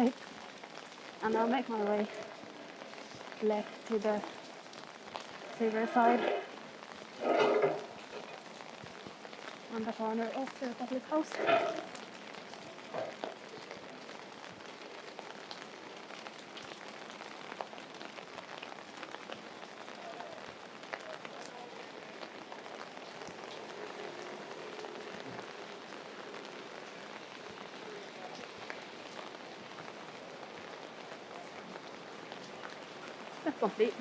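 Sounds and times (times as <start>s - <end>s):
rain on wet pavement: 0.0s - 34.0s.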